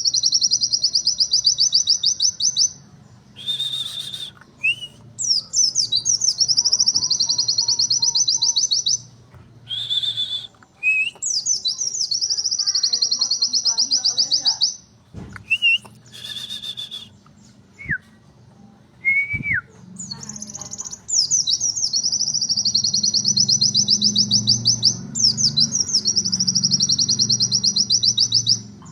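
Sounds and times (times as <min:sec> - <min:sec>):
bird whistles and upslurred notes: 0:00.0 - 0:09.0, 0:09.6 - 0:14.8, 0:15.4 - 0:18.1, 0:19.0 - 0:28.7
bird singing fast high trills: 0:00.0 - 0:09.1, 0:09.7 - 0:14.8, 0:15.5 - 0:17.2, 0:20.0 - 0:28.7.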